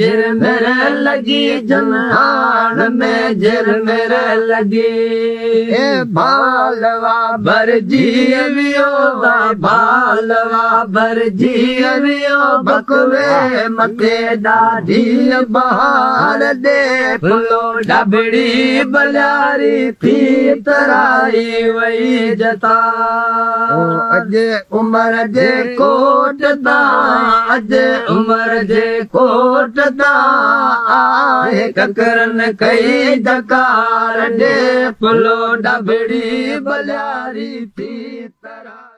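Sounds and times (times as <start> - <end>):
person singing folk song: 0.0 - 38.9.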